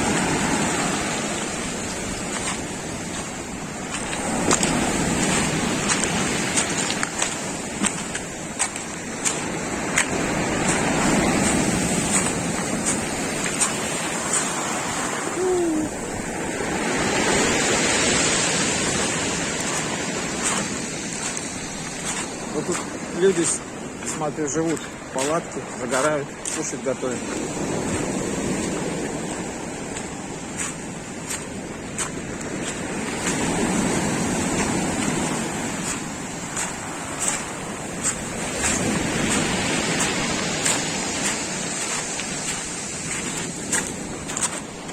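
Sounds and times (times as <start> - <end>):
crunching footsteps: 0.0 - 44.9
surf washing onto shore: 0.0 - 44.9.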